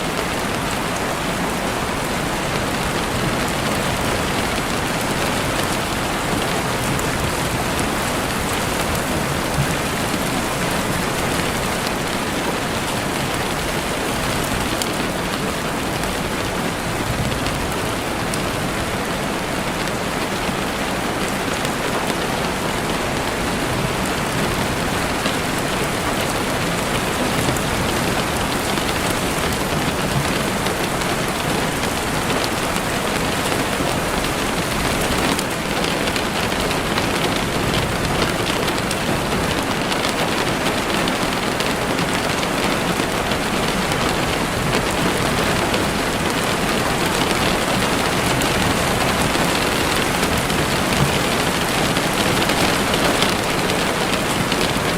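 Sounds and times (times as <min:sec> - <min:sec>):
heavy rain on a window: 0:00.0 - 0:54.9.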